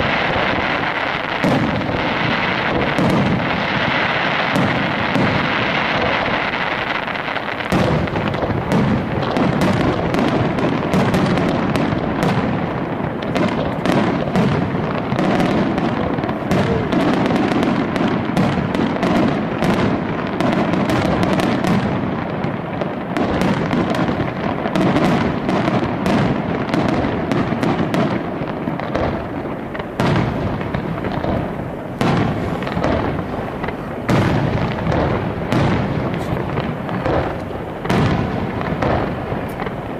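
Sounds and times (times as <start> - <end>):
fireworks bursting and crackling: 0.0 - 39.9
sharp loud firework cracks: 0.0 - 39.9.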